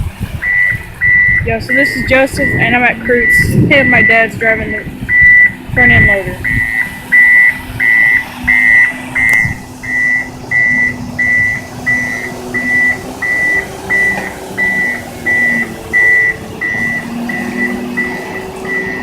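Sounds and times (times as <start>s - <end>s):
diesel engine running: 0.0s - 19.0s
backup alarm beeping: 0.4s - 19.0s.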